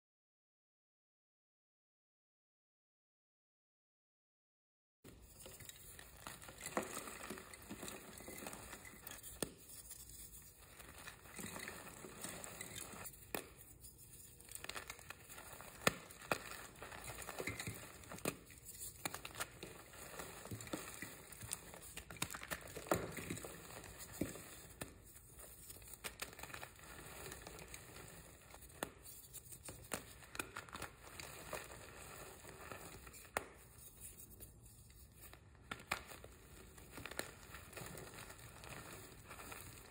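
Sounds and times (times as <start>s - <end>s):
sharp chalk cracks: 5.1s - 39.9s.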